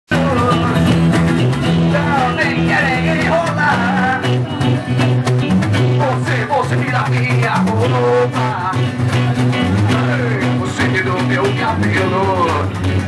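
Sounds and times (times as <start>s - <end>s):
band playing reggae: 0.1s - 13.0s.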